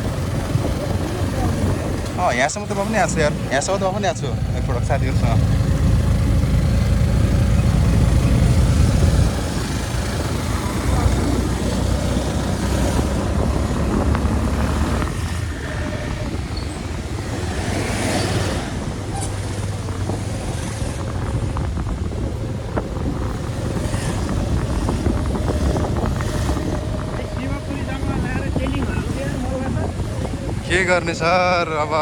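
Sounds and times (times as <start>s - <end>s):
vehicle engine running: 0.0s - 17.7s, 18.7s - 32.0s
wind gusting over microphone: 0.0s - 32.0s.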